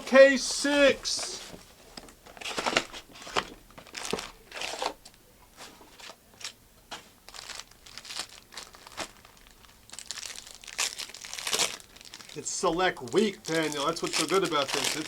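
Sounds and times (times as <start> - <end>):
foil wrappers crinkling and tearing: 2.0 - 5.1, 5.9 - 15.0.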